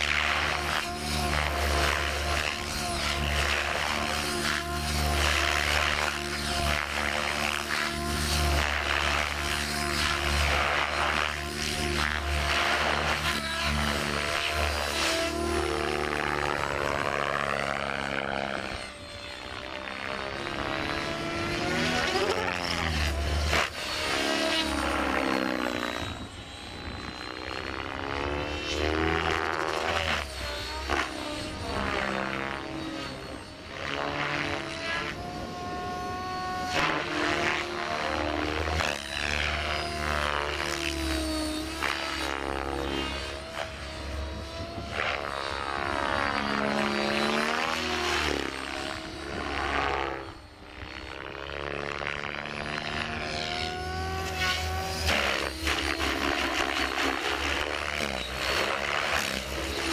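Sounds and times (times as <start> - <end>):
rc helicopter rotor whine: 0.0 - 59.9.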